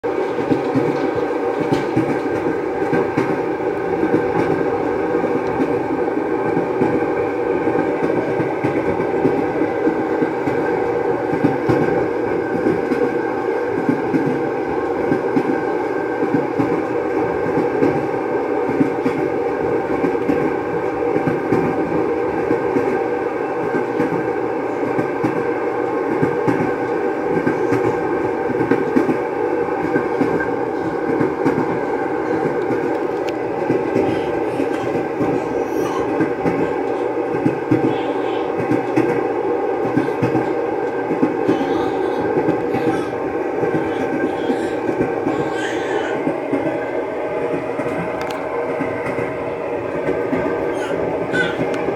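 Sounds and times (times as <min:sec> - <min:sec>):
train wheels rumbling on track: 0:00.0 - 0:51.9.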